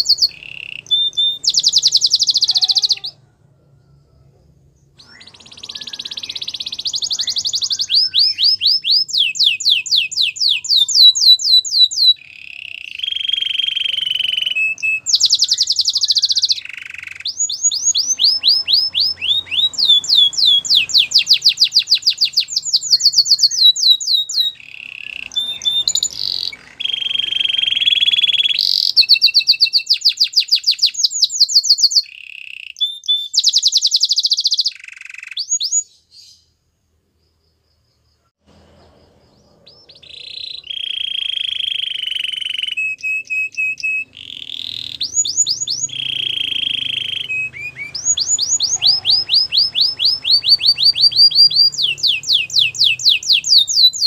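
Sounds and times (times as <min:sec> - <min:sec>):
canary singing trills: 0:00.0 - 0:36.6, 0:37.7 - 0:54.0.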